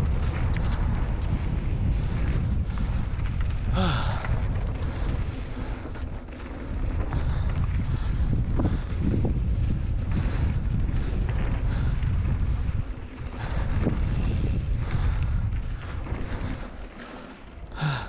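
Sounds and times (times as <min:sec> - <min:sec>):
deep rumble from trail: 0:00.0 - 0:18.0
wind buffeting microphone: 0:00.0 - 0:18.0.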